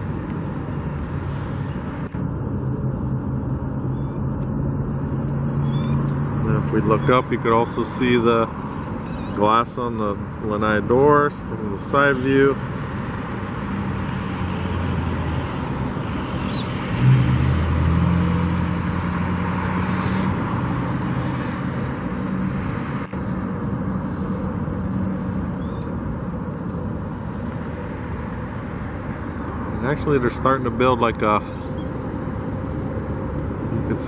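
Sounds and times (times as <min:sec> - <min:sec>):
outdoor hum: 0:00.0 - 0:34.0
vehicle engine: 0:00.0 - 0:34.0.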